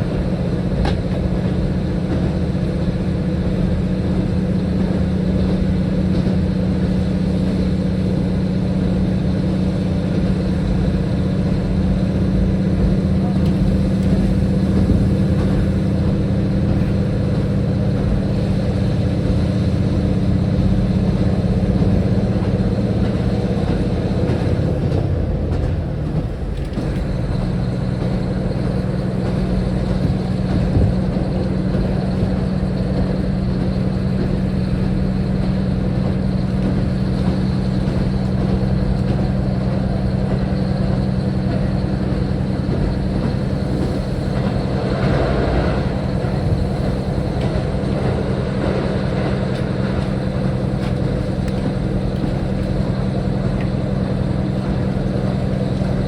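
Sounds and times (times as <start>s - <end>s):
diesel railcar engine: 0.0s - 56.0s.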